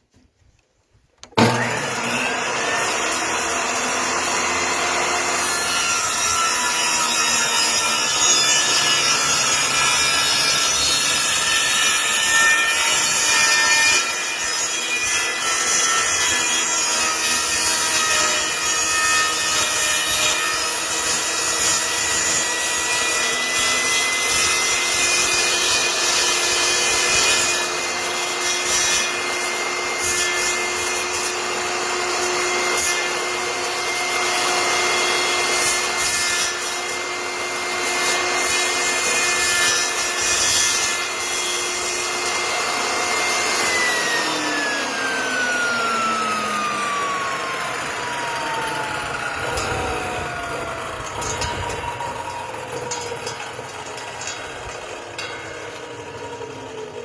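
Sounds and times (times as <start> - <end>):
table saw cutting wood: 1.2 - 57.0.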